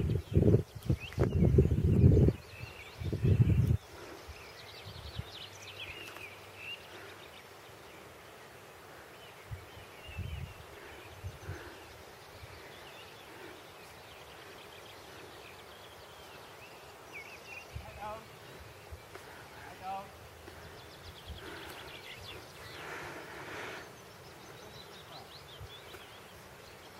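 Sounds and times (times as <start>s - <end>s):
songbirds chirping: 0.0s - 26.9s.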